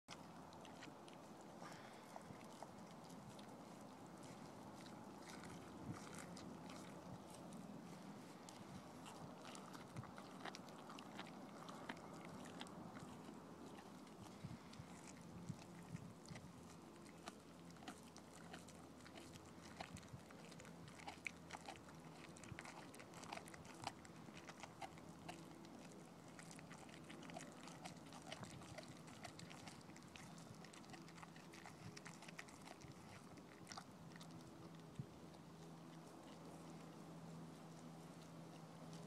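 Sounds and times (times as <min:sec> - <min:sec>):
dog chewing: 0:00.1 - 0:39.0.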